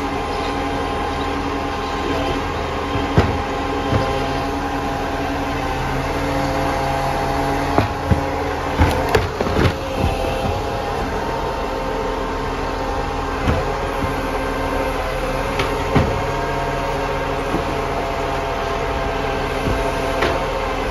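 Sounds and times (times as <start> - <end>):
garbage truck running: 0.0 - 20.9
hydraulic arm lifting bin: 0.0 - 20.9
clunks of bin and arm: 0.4 - 6.8, 7.5 - 11.6, 12.4 - 16.6, 17.2 - 20.9.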